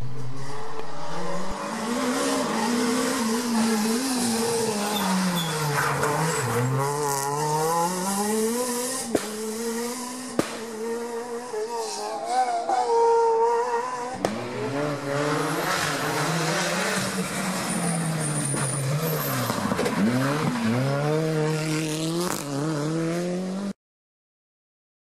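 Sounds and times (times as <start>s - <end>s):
car engine revving: 0.0s - 23.7s.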